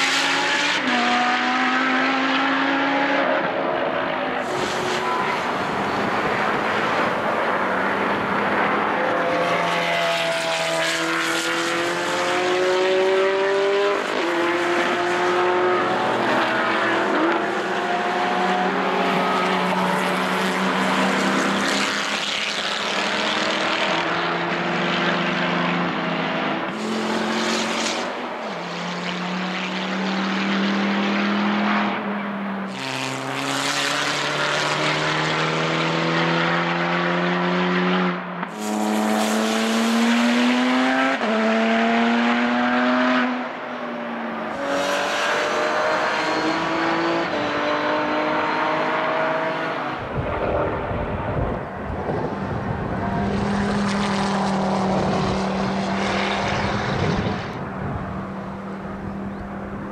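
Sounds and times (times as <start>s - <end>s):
race car engines at full throttle: 0.0s - 59.9s.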